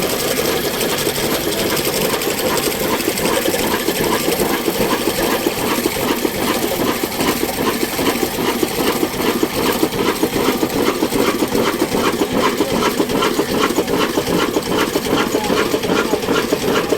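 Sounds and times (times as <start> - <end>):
diesel engine clattering: 0.0 - 16.9.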